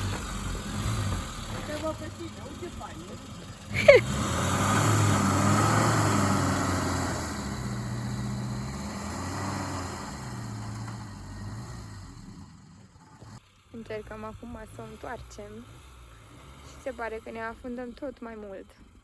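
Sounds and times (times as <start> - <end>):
car engine revving under load: 0.0 - 18.2.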